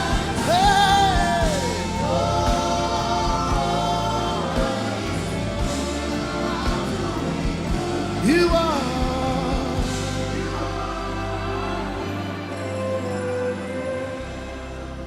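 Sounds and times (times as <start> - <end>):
live gospel worship music: 0.0 - 15.0
person singing: 0.0 - 15.0.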